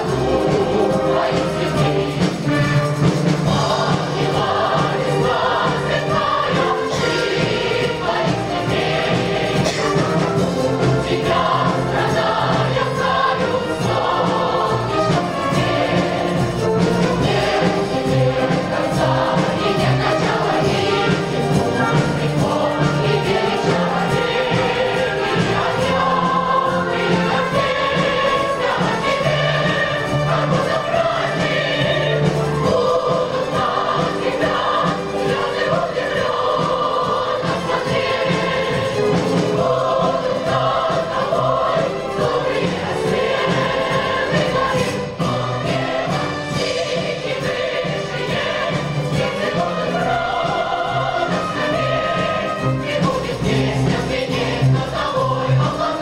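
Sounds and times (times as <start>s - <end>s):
large choir singing: 0.0s - 56.0s.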